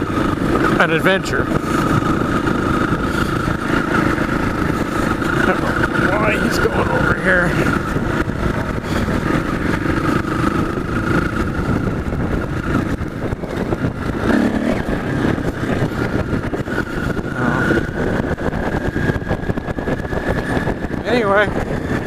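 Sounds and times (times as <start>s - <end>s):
motorcycle engine running: 0.0s - 22.0s
road noise: 0.0s - 22.0s
wind noise: 0.0s - 22.0s.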